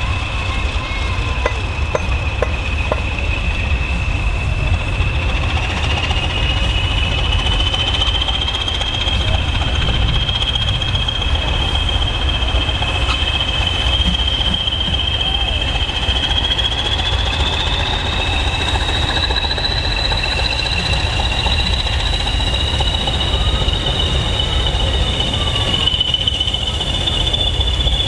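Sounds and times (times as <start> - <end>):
diesel locomotives idling: 0.0 - 28.0
train wheels clanking: 0.0 - 28.0
turbocharger whistle: 0.0 - 28.0.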